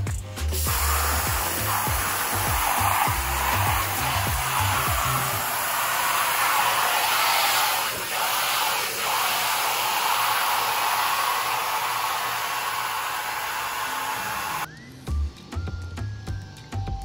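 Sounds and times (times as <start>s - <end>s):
water spraying from hose: 0.4s - 14.7s.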